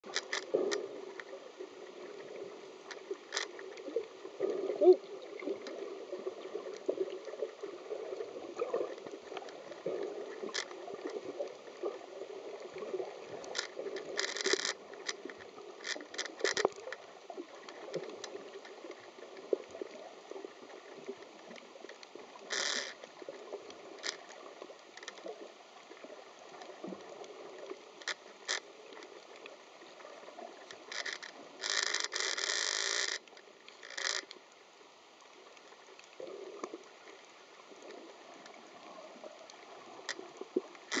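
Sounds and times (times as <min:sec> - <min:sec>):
muffled underwater sea water: 0:00.0 - 0:41.0.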